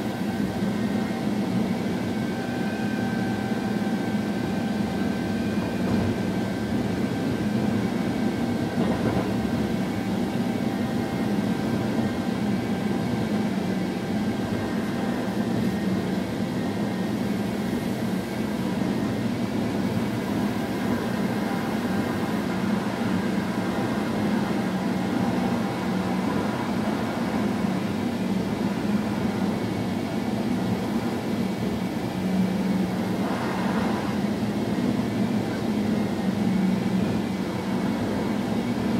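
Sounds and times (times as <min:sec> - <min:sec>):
train cab low drone: 0:00.0 - 0:38.9.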